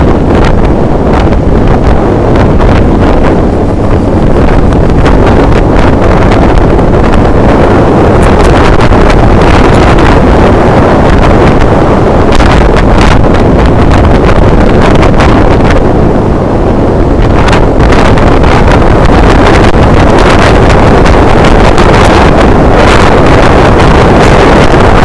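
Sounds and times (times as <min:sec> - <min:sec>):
road and tyre rumble: 0:00.0 - 0:25.0
wind buffeting microphone: 0:00.0 - 0:25.0.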